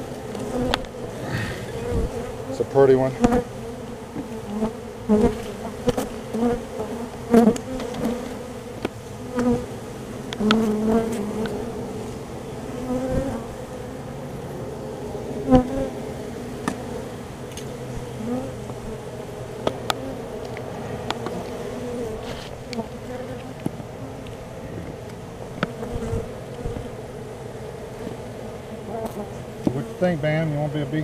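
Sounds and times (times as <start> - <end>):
honey bees buzzing: 0.0 - 31.0.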